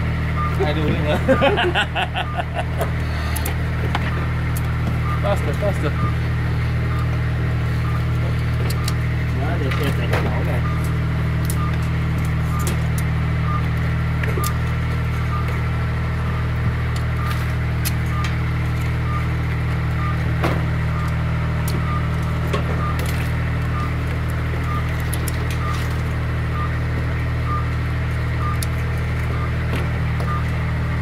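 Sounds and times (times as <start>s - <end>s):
machine engine droning: 0.0s - 31.0s.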